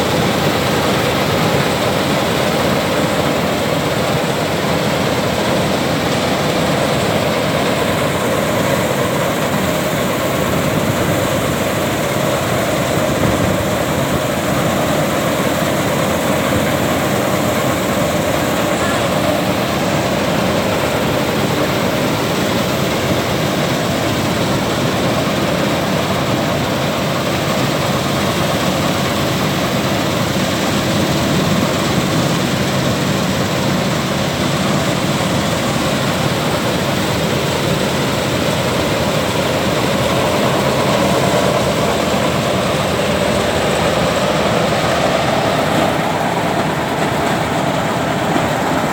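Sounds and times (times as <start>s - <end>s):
combine harvester running: 0.0s - 48.9s.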